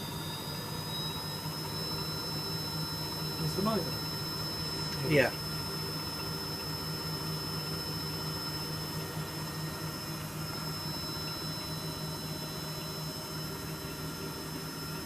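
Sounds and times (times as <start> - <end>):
thin high whine: 0.0 - 15.0
washing machine low hum: 0.0 - 15.0.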